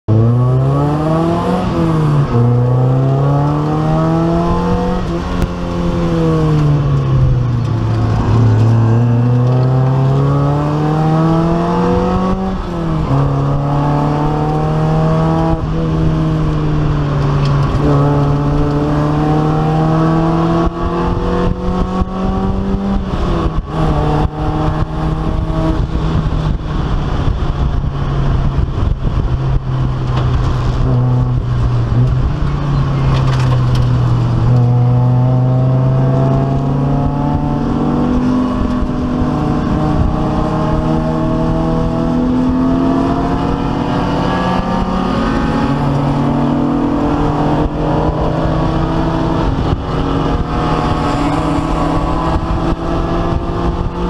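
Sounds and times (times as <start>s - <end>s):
race car engine revving: 0.1s - 54.0s.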